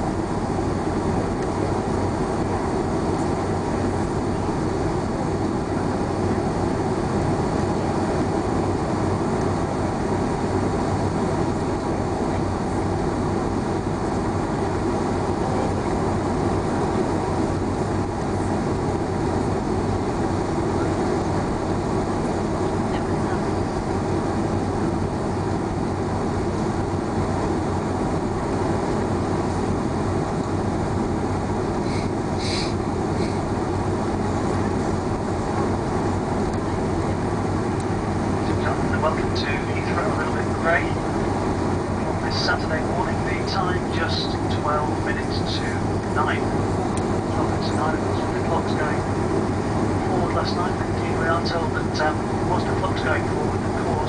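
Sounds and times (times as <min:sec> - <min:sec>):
jet engines idling in cabin: 0:00.0 - 0:54.0.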